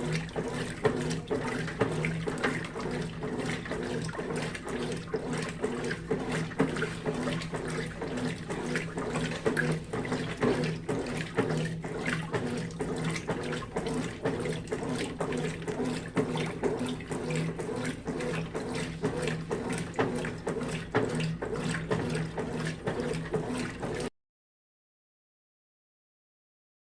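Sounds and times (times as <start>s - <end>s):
washing machine motor hum: 0.0s - 24.1s
water sloshing and splashing: 0.0s - 24.1s.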